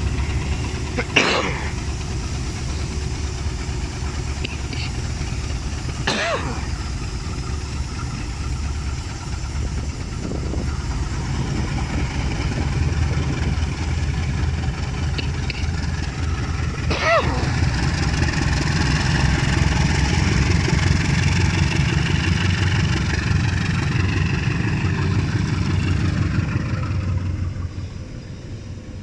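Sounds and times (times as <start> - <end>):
diesel locomotive engines idling: 0.0 - 29.0.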